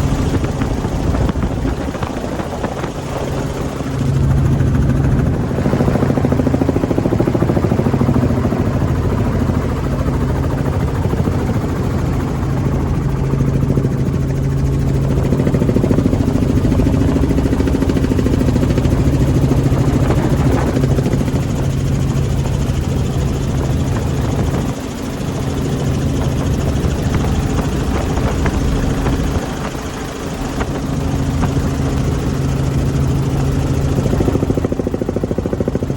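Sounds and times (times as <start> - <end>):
helicopter engine and rotor drone: 0.0 - 35.9.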